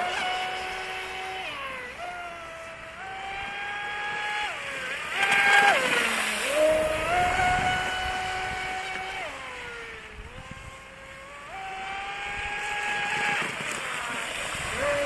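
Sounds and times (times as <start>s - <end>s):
model boat motor whining: 0.0s - 15.0s.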